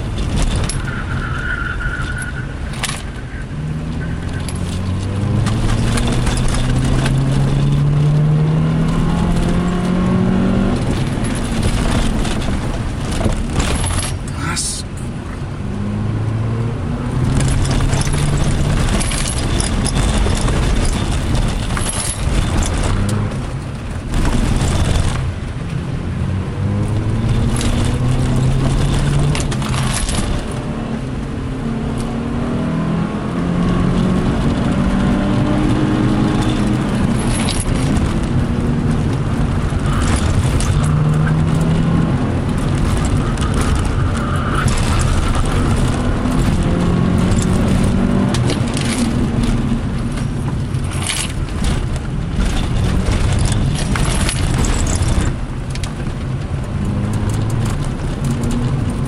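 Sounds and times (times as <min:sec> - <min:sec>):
car engine revving: 0:00.0 - 0:59.0
tyre and road noise: 0:00.0 - 0:59.0.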